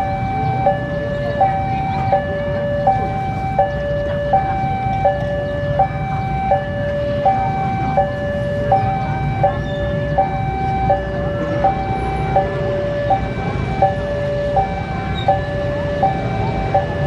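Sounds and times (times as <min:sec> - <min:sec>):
diesel locomotive rumble: 0:00.0 - 0:17.0
level crossing two-tone alarm: 0:00.0 - 0:17.0.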